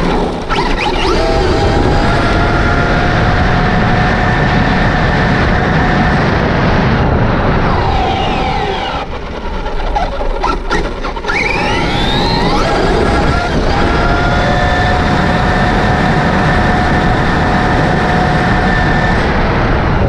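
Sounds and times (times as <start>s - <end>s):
electric motor whine: 0.0s - 20.0s
wind and tire rush: 0.0s - 20.0s.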